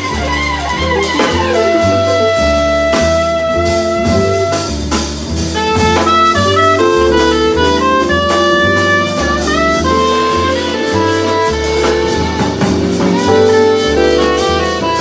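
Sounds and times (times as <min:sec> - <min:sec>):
melody of long held notes: 0:00.0 - 0:04.8, 0:05.4 - 0:15.0
bass line: 0:00.0 - 0:15.0
drum kit with cymbals: 0:00.0 - 0:15.0.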